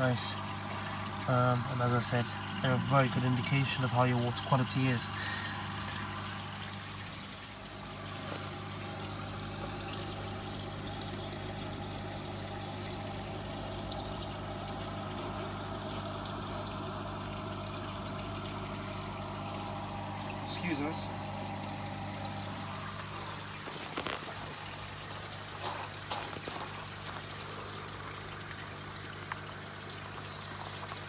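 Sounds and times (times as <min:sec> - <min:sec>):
water pump humming: 0:00.0 - 0:31.0
water trickling into tank: 0:00.0 - 0:31.0.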